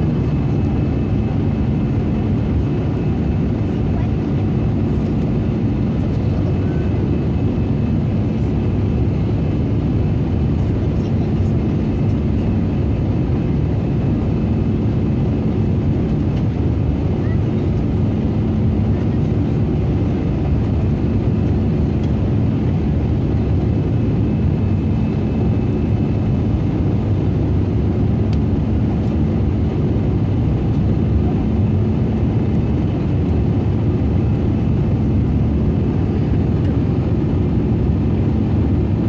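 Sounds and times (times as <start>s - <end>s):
airplane cabin engine rumble: 0.0s - 39.0s.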